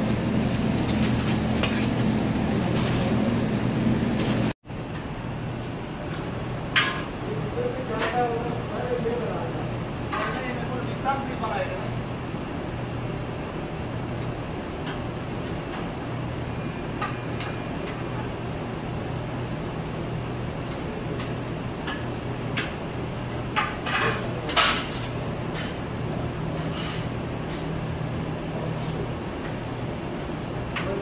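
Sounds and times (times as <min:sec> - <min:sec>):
kitchen machine hum: 0:00.0 - 0:31.0.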